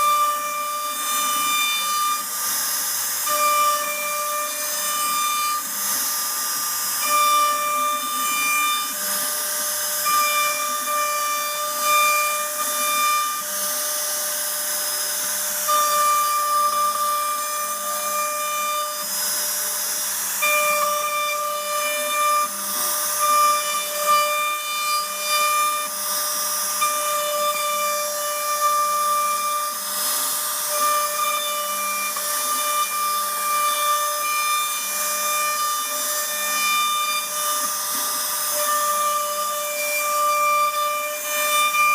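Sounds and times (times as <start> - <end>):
router spindle whining: 0.0 - 41.9.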